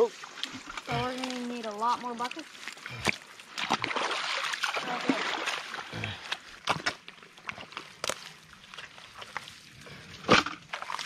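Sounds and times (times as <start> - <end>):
sloshing in muddy water: 0.0 - 11.0.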